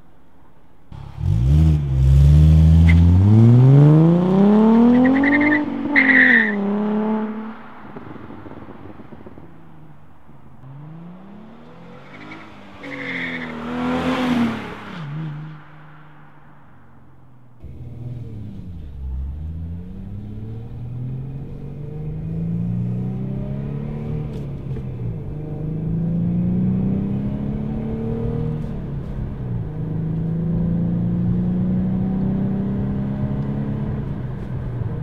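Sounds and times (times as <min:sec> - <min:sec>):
car engine revving: 0:00.9 - 0:35.0.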